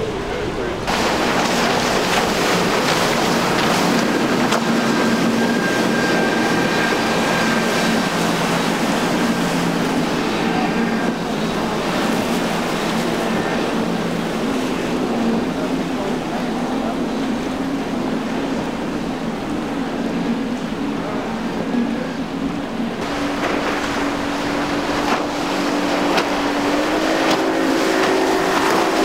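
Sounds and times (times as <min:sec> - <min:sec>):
outboard motors droning: 0:00.0 - 0:29.0
rush of hull spray: 0:00.0 - 0:29.0.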